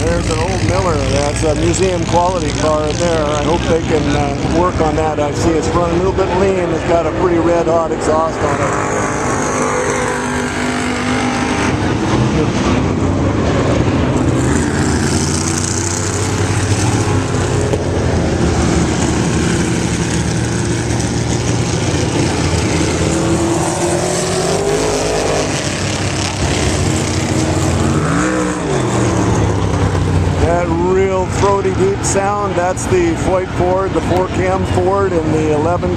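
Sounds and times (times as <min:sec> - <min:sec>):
race car engines passing by: 0:00.0 - 0:35.9.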